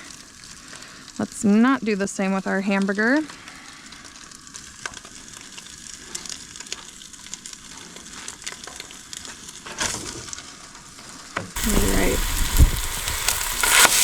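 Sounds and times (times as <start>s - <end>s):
sausage sizzling in a pan: 0.0s - 14.0s.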